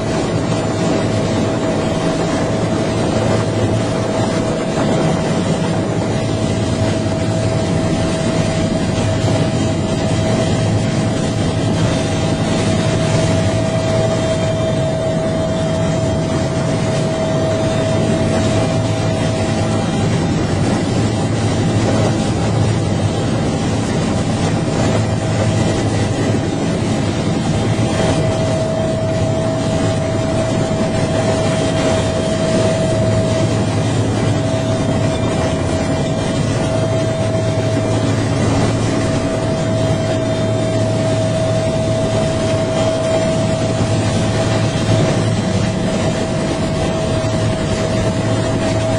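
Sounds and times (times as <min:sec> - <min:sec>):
helicopter rotor and engine rumble: 0:00.0 - 0:48.9.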